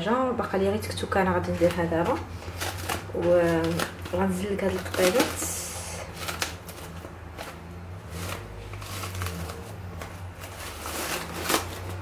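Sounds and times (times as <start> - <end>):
cling film crinkling: 1.4 - 12.0.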